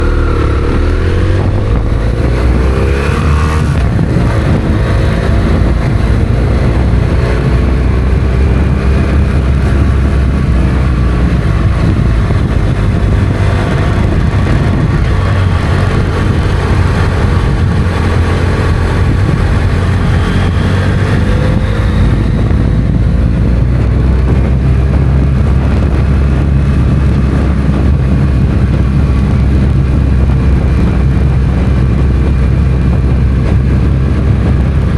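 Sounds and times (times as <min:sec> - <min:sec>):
motorcycle engine running: 0:00.0 - 0:34.9
wind and road noise: 0:00.0 - 0:34.9.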